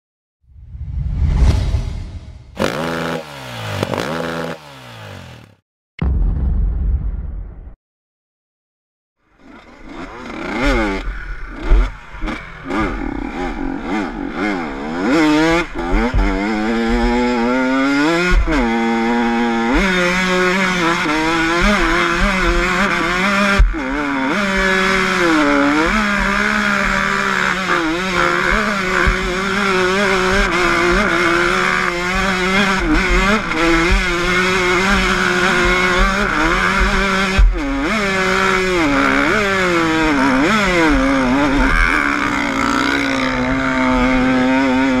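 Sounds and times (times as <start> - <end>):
two-stroke engine revving: 2.6 - 5.6, 9.3 - 45.0.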